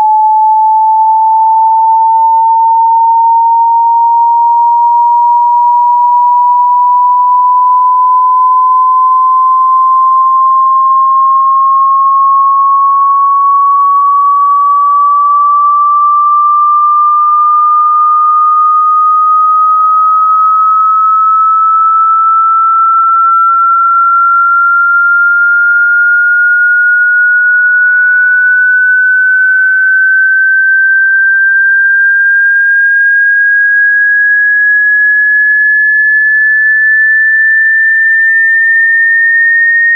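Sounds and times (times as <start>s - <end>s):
sine tone gliding upward: 0.0s - 39.9s.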